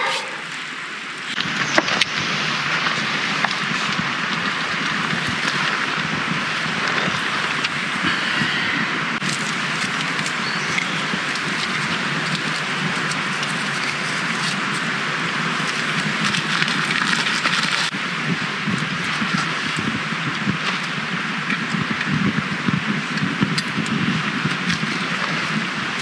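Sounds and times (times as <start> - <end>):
rain hissing on a tarp: 0.0 - 26.0
wood fire crackling: 0.0 - 26.0.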